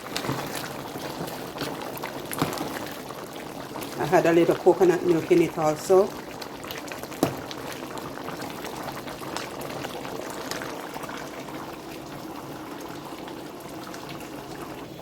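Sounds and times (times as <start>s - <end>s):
curry simmering and bubbling: 0.0s - 15.0s.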